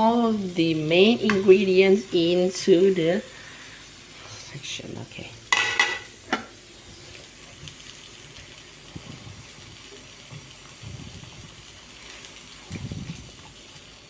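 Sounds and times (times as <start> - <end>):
soup simmering in a pot: 0.0 - 4.5, 5.5 - 14.0.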